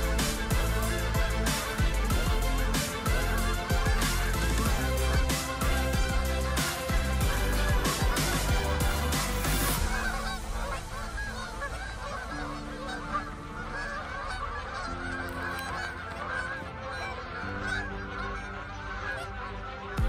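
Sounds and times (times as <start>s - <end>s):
geese honking in flight: 0.0s - 20.0s.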